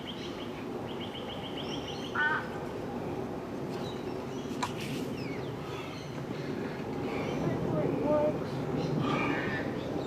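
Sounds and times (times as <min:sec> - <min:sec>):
outdoor background: 0:00.0 - 0:10.0.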